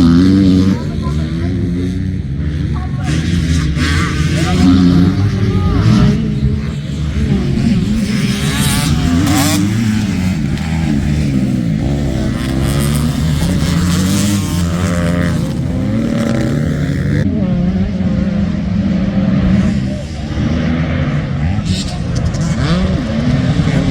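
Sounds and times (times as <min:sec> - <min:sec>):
motocross engines revving: 0:00.0 - 0:23.9.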